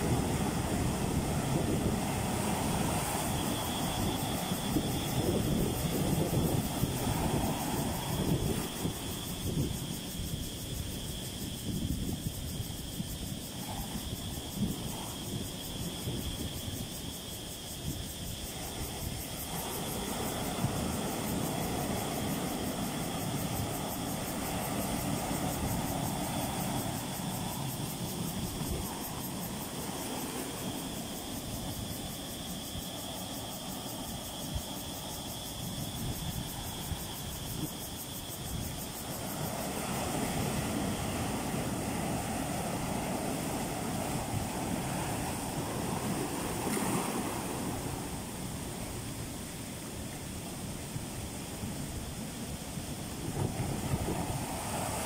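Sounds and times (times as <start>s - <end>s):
waves washing over rocks: 0.0s - 10.2s, 17.5s - 55.0s.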